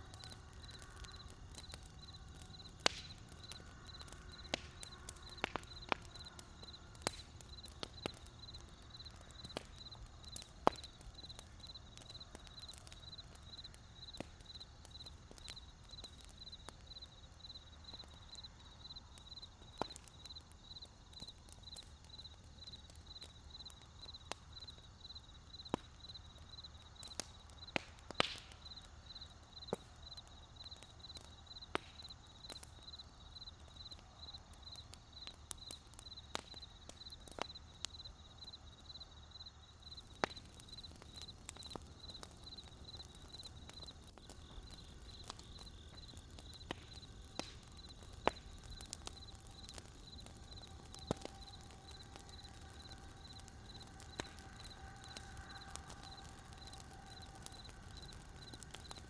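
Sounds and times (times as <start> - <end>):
insect chirping: 0.0 - 27.8, 28.6 - 59.0
wood fire crackling: 0.0 - 59.0.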